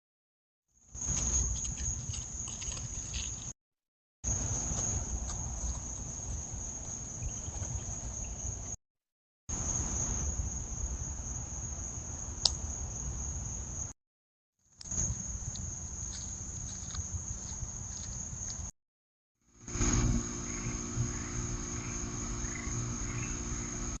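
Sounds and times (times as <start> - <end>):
crickets chirping: 0.8 - 3.5, 4.3 - 8.8, 9.5 - 14.0, 14.8 - 18.7, 19.6 - 24.0.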